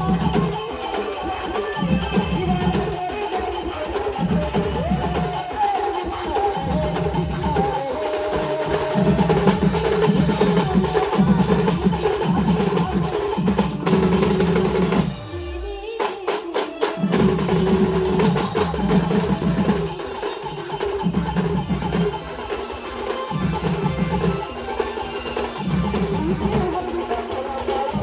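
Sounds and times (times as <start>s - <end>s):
street band drums and melody: 0.0s - 28.0s.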